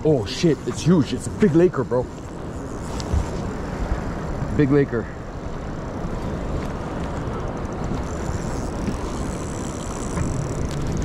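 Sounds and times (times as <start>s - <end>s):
boat motor rumble: 0.0s - 11.0s
water around boat: 0.0s - 11.0s
wind: 0.0s - 11.0s.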